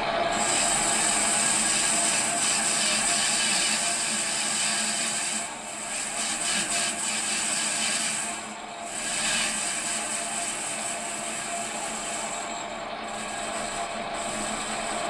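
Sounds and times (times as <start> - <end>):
lathe motor and gearing hum: 0.0 - 15.0
lathe tool cutting hiss: 0.0 - 15.0.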